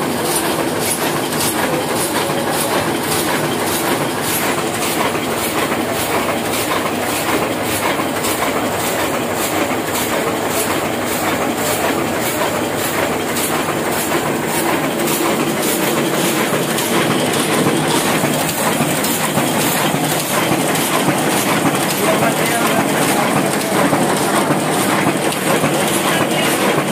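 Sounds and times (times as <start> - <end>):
printing press clattering: 0.0 - 26.9.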